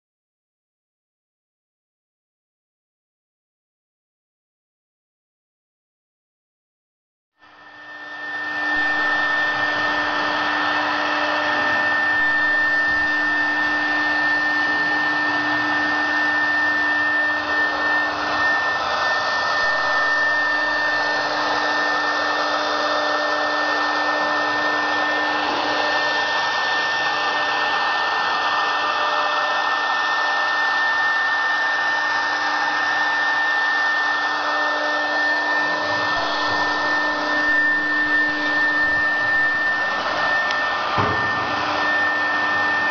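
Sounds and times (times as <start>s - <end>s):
router spindle whining: 7.4s - 42.9s.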